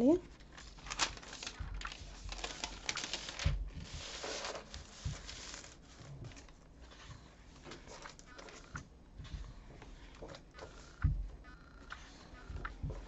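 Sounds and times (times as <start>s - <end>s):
paper pages rustling: 0.4s - 10.9s.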